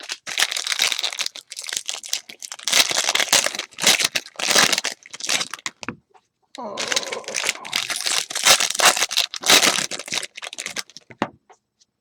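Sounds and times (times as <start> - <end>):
wrappers crinkling and tearing: 0.0 - 5.8, 6.6 - 11.2.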